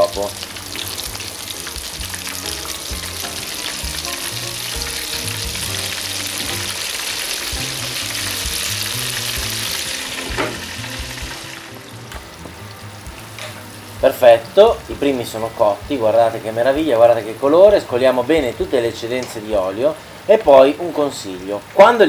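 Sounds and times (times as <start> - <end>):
oil sizzling in deep fryer: 0.0 - 22.0.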